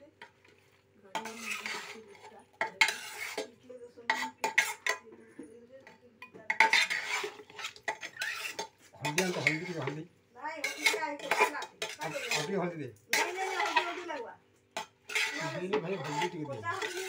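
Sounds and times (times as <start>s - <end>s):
spoon scraping a pot: 0.1s - 17.0s.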